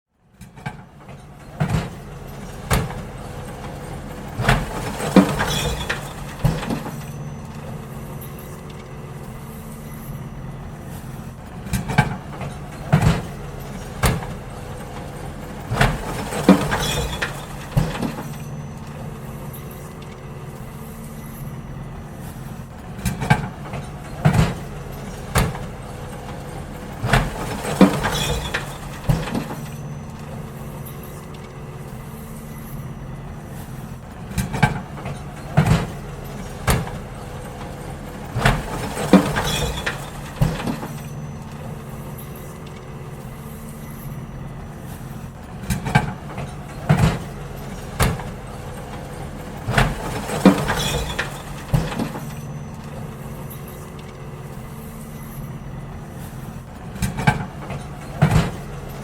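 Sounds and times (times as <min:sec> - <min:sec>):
garbage truck engine running: 0:00.1 - 0:59.0
bins clanking and banging: 0:00.4 - 0:59.0.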